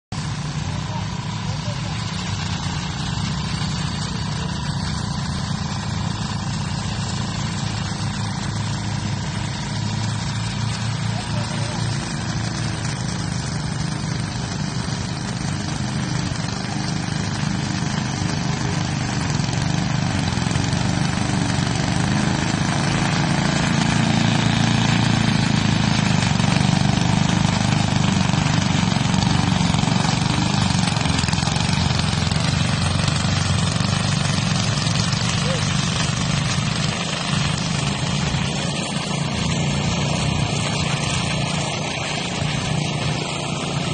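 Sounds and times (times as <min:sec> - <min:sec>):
engine running: 0:00.1 - 0:43.9.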